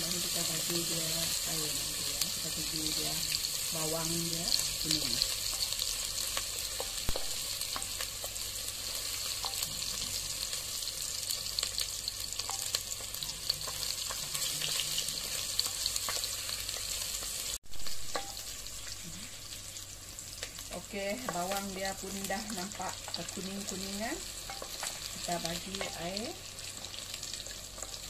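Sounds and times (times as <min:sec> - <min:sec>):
onions sizzling in fat: 0:00.0 - 0:28.0.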